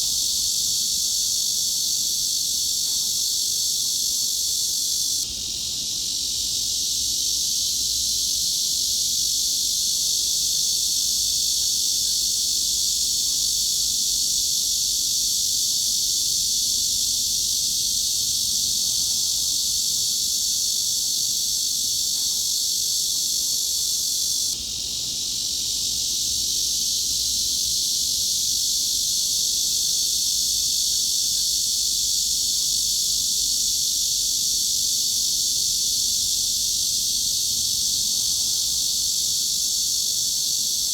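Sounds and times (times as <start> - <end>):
cicada buzz: 0.0 - 40.9.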